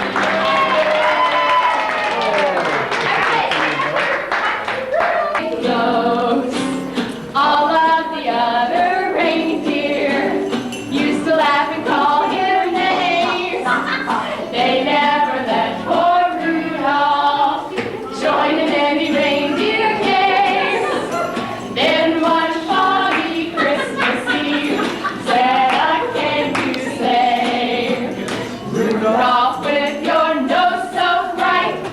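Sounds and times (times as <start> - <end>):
musical accompaniment: 0.0 - 1.4, 5.4 - 31.9
group of voices singing: 5.2 - 31.9.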